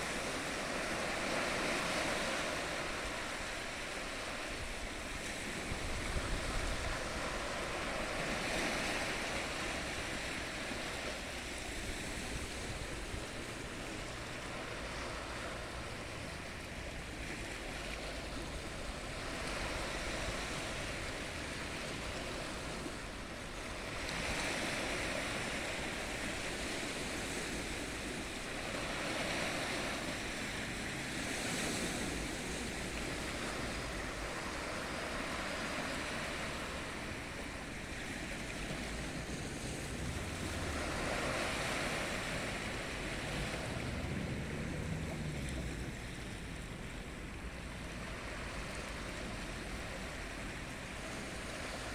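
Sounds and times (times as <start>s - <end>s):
ocean waves breaking: 0.0s - 51.9s.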